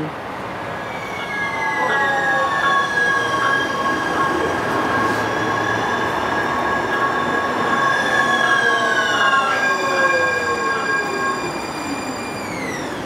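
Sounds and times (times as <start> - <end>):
train rushing rumble: 0.0 - 13.0
high-pitched tones and whine: 0.8 - 13.0.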